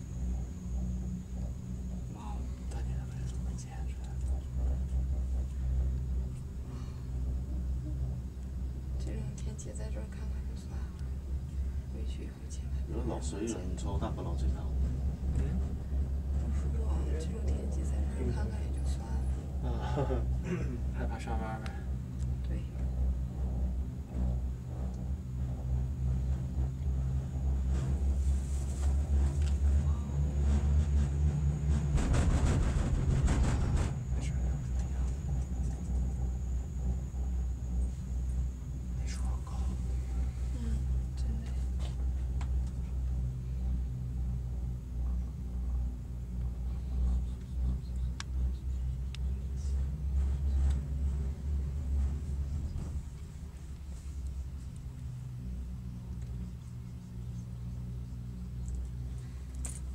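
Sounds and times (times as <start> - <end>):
cable car rumble and hum: 0.0 - 59.9.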